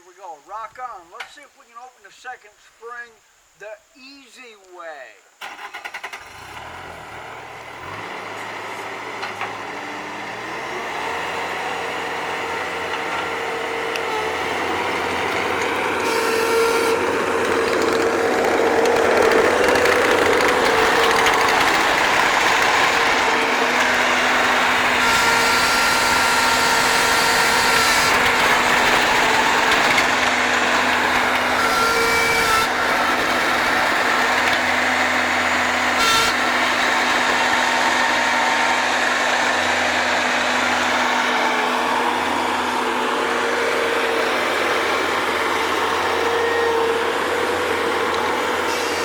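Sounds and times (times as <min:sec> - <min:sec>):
skid-steer loader engine running: 0:05.4 - 0:49.0.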